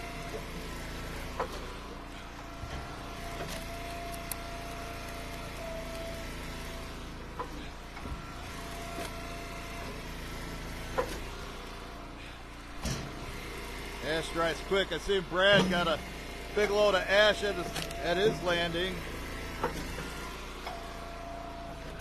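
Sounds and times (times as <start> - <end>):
hydraulic whine: 0.0 - 22.0
wood splitter engine running: 0.0 - 22.0.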